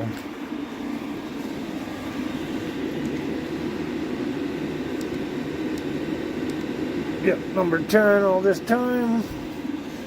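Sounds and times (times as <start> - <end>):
air heater blower whirring: 0.0 - 10.0.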